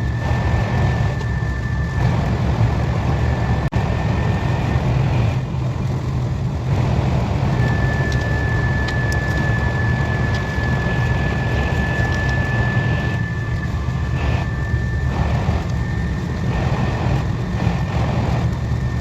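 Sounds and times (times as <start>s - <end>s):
thin high whine: 0.0s - 5.5s, 6.7s - 19.0s
high-speed train rumbling: 0.0s - 19.0s.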